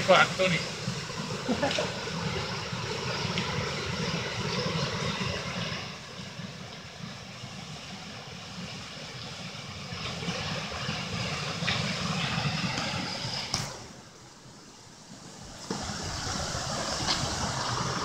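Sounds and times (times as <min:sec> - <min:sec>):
flowing river water: 0:00.0 - 0:18.0.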